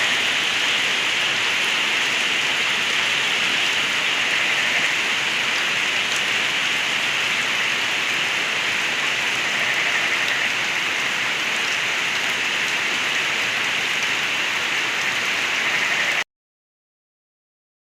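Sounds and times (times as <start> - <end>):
heavy rain: 0.0 - 16.2
rainwater gurgling: 0.0 - 16.2.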